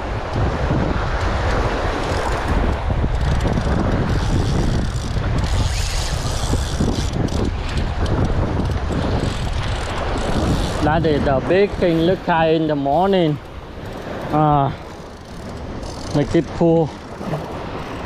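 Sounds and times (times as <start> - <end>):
waves washing: 0.0 - 18.0
wind buffeting microphone: 0.0 - 18.0.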